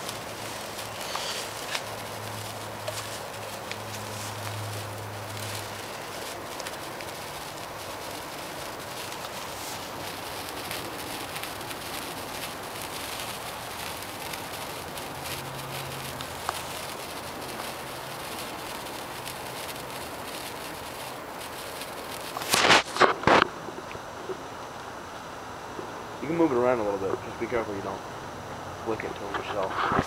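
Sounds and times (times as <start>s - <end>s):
sparkler fizzing crackle: 0.0s - 28.0s, 28.8s - 30.0s.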